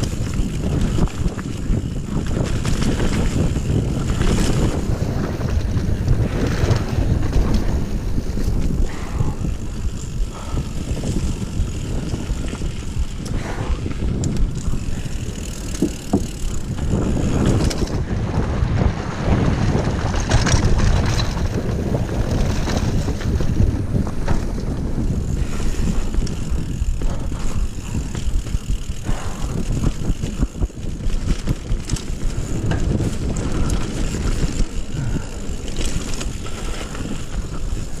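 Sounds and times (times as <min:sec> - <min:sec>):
bike rattles and knocks: 0:00.0 - 0:38.0
tyres on dirt: 0:00.0 - 0:38.0
wind rushing over microphone: 0:00.0 - 0:38.0.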